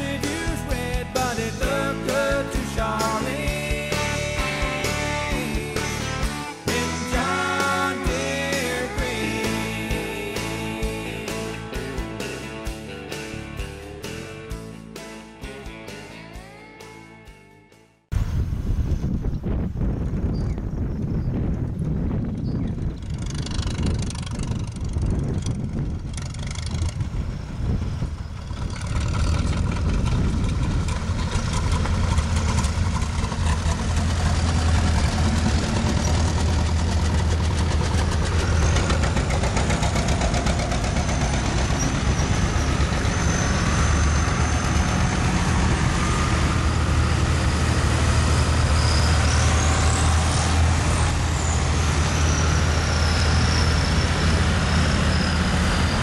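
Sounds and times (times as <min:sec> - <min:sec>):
tractor engines droning: 0:00.0 - 0:17.4, 0:18.2 - 0:56.0.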